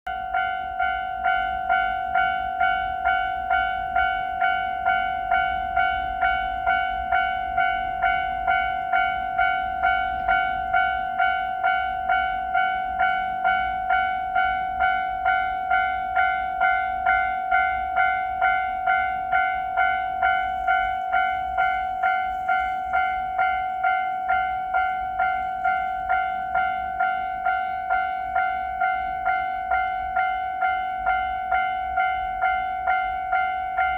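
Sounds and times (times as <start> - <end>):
level-crossing warning bell: 0.0 - 33.9.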